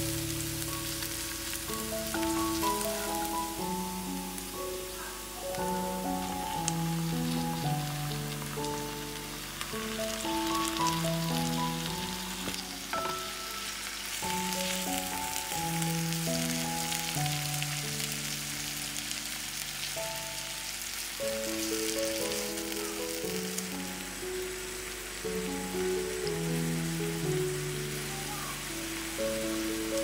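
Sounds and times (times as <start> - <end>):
slow background music: 0.0 - 30.0
vegetables sizzling in hot oil: 0.0 - 30.0.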